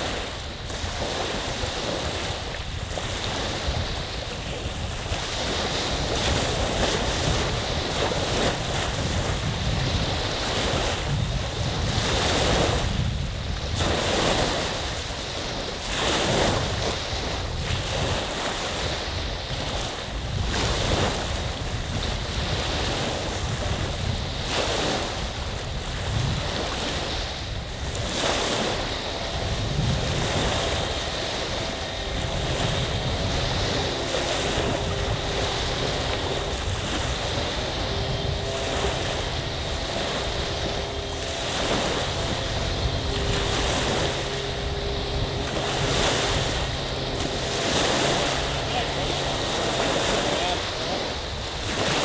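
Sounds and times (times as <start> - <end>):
waves washing on shore: 0.0 - 52.0
wind buffeting microphone: 0.0 - 52.0.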